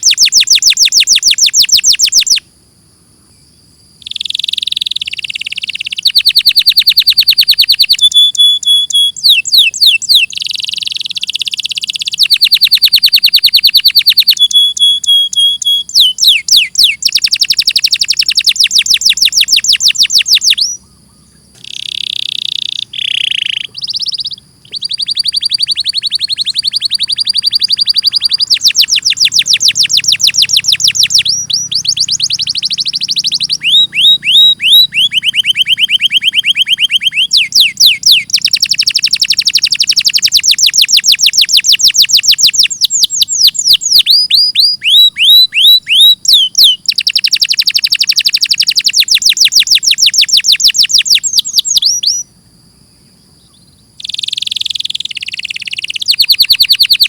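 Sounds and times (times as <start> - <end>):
canary singing trills: 0.0 - 2.5, 3.2 - 52.4, 53.0 - 57.0.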